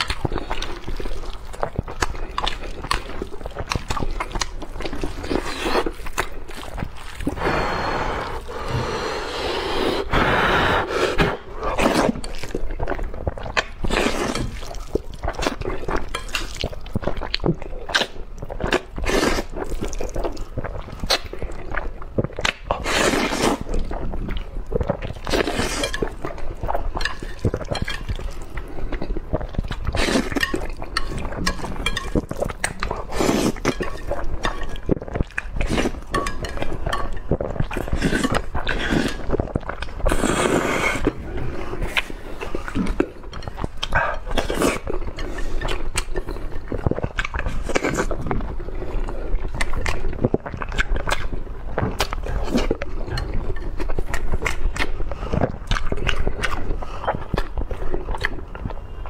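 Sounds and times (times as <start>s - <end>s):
slurping and wet chewing: 0.0s - 59.0s.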